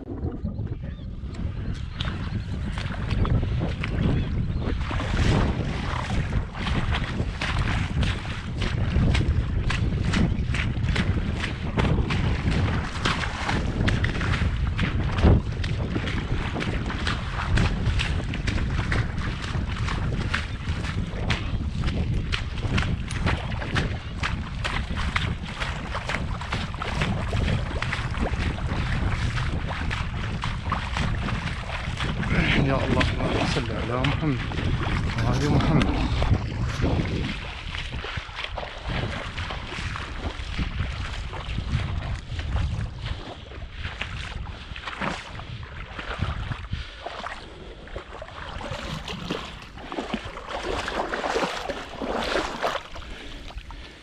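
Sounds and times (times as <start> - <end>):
wind rumbling on microphone: 0.0 - 54.0
water sloshing and splashing: 1.3 - 54.0.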